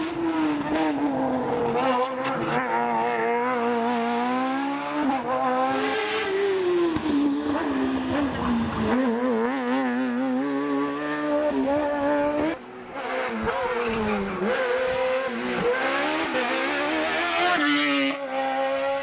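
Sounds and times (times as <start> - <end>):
racing car engine revving: 0.0 - 19.0.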